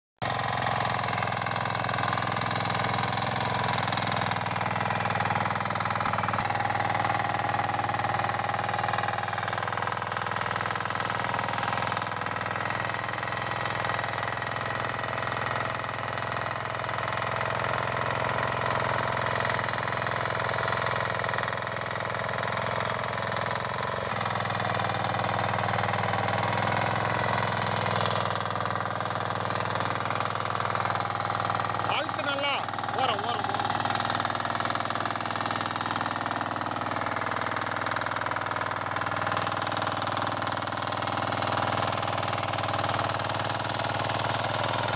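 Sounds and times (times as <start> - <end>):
diesel engine running under load: 0.2 - 44.9.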